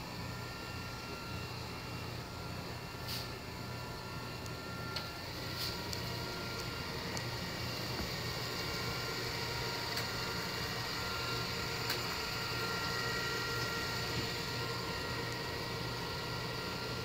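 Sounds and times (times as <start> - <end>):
robot vacuum humming: 0.0 - 17.0.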